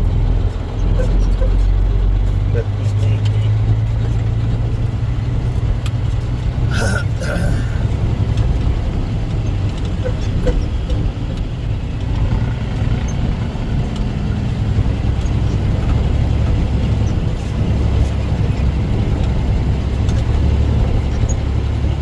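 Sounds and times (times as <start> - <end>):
diesel engine rumble: 0.0 - 22.0.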